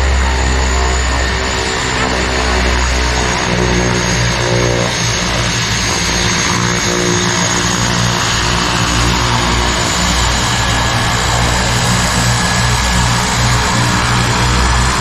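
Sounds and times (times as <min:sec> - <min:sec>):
propeller airplane engines running: 0:00.0 - 0:15.0.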